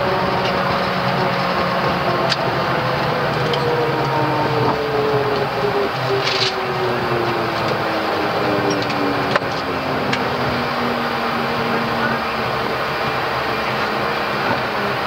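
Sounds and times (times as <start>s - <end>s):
aircraft rumble and hiss: 0.0s - 15.0s.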